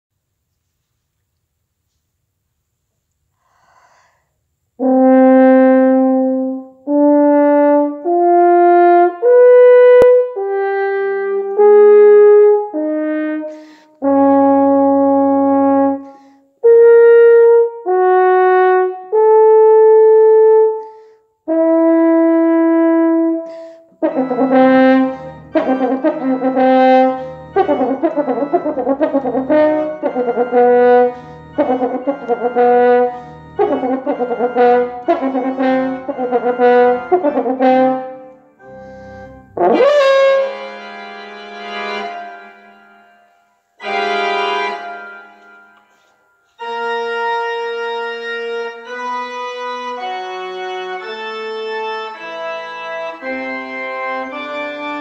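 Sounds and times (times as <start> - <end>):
french horn melody: 4.8 - 55.0
organ chords: 4.8 - 55.0.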